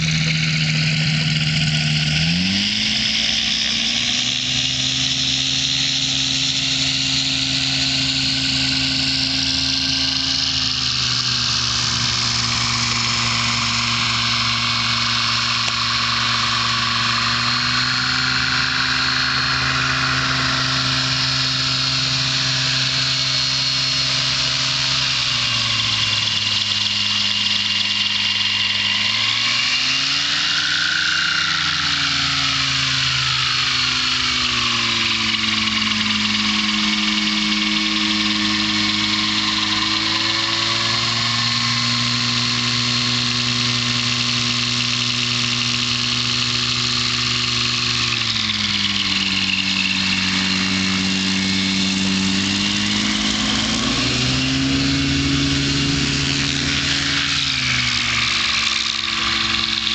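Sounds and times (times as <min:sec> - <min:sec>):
aircraft engine buzzing drone: 0:00.0 - 0:59.9.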